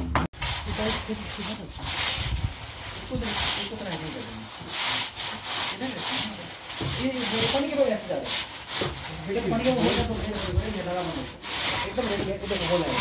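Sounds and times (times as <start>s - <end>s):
straightedge scraping cement screed: 0.4s - 13.0s.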